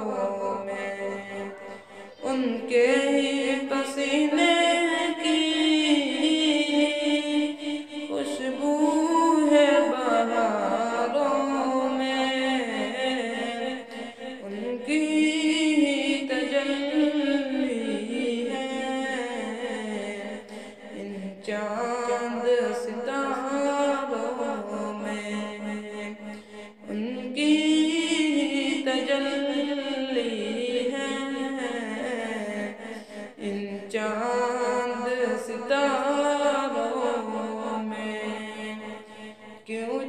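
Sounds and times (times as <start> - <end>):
held vocal drone: 0.0 - 40.0
solo person singing melody: 0.0 - 40.0.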